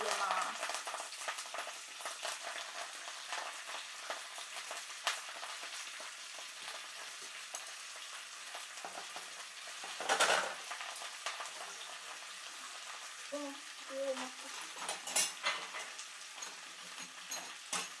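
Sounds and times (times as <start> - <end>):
greens sizzling in hot oil: 0.0 - 18.0.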